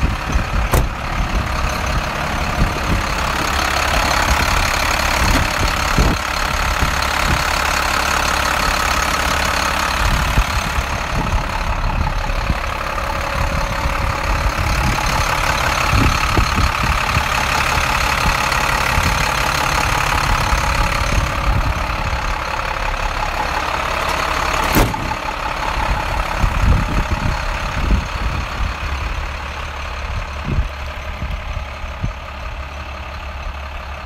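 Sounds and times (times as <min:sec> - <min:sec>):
diesel truck engine idling: 0:00.0 - 0:34.0.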